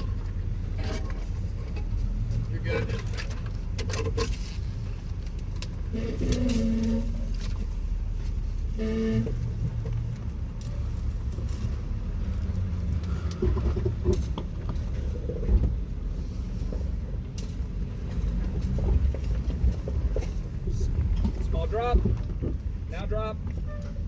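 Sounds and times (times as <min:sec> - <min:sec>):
car engine at low revs: 0:00.0 - 0:24.0.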